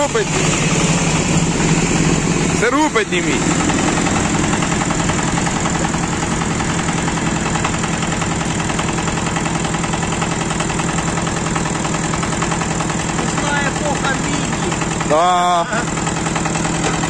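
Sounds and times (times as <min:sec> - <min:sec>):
small tractor engine idling: 0:00.0 - 0:17.0.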